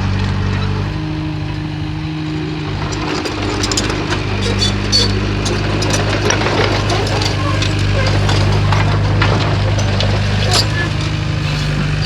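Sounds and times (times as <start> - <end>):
heavy machinery diesel engine: 0.0 - 12.0
metallic clanks: 1.2 - 12.0.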